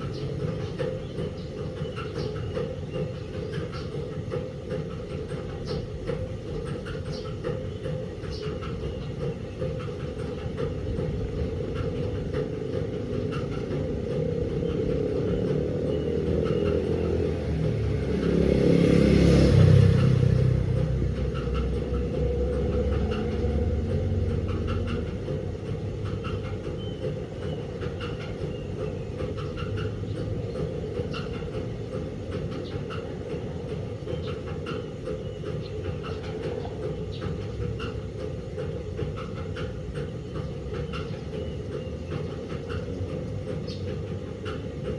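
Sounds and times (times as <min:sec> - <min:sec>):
washing machine rumbling: 0:00.0 - 0:44.9.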